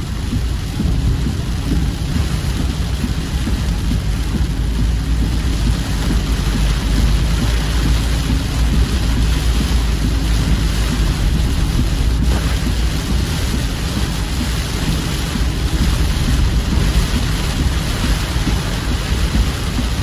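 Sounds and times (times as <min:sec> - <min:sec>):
heavy rain hissing: 0:00.0 - 0:20.0
low rumble: 0:00.0 - 0:20.0.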